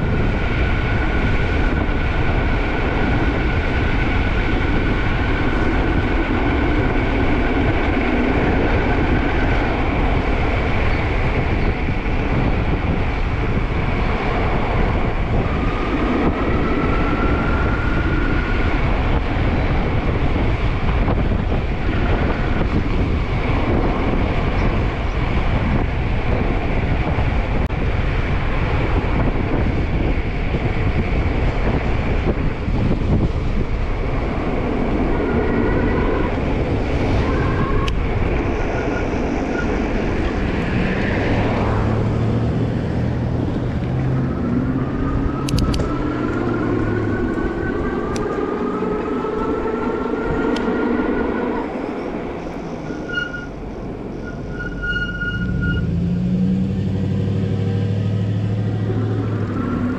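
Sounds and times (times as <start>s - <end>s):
electric bike rumbling: 0.0s - 59.9s
wind buffeting microphone: 0.0s - 59.9s.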